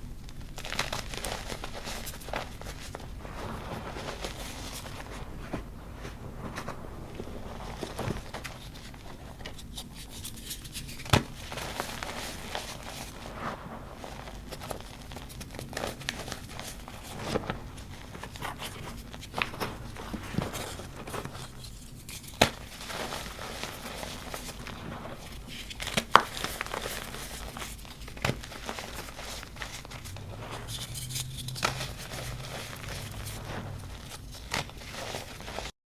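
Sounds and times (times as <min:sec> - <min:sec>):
chalk crunching and crackling: 0:00.3 - 0:35.7.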